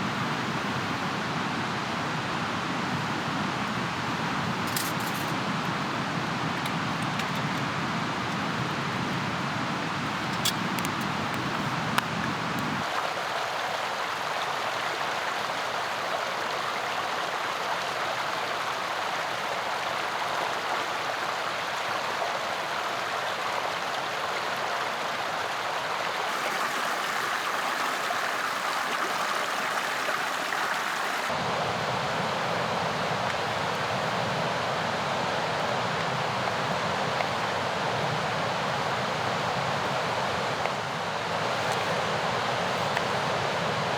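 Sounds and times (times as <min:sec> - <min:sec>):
mountain river rushing: 0:00.0 - 0:43.9.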